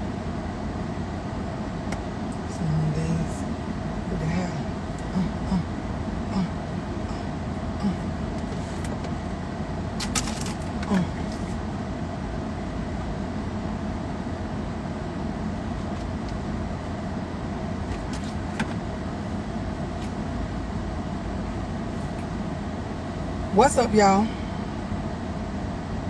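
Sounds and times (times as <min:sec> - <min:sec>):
car cabin engine hum and hiss: 0:00.0 - 0:26.0.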